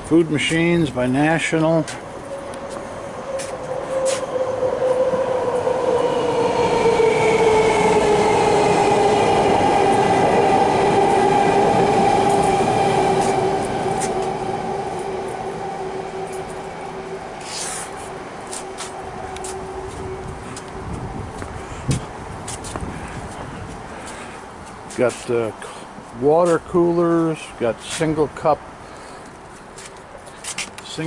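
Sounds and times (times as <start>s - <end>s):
passing vehicle whine: 0.0s - 31.0s.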